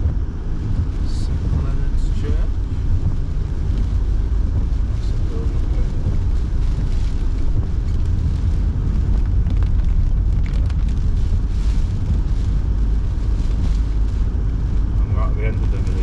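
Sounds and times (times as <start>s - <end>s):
road and engine noise: 0.0s - 16.0s.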